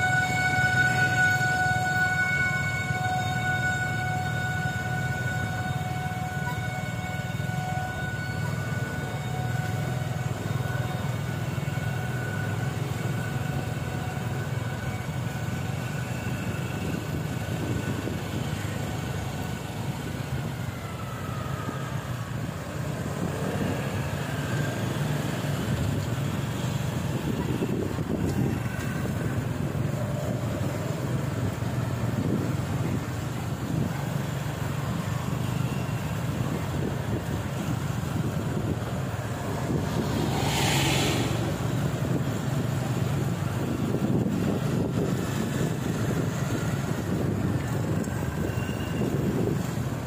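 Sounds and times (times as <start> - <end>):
motor vehicle engine rumble: 0.0 - 50.0.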